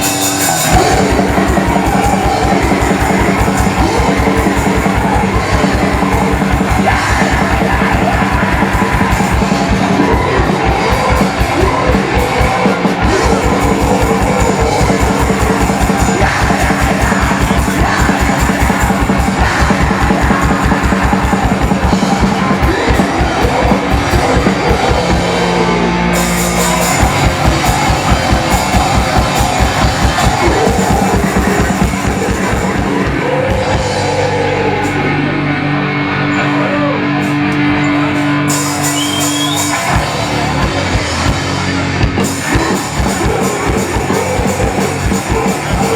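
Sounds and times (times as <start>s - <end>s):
rapid drumming: 0.0s - 35.1s, 38.2s - 45.9s
distorted guitars and bass: 0.0s - 45.9s
person yelling vocals: 0.4s - 35.2s, 42.4s - 45.9s.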